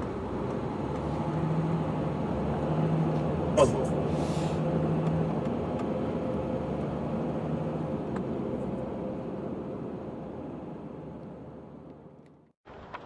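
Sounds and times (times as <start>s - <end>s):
car engine and tyre hum: 0.0s - 13.0s.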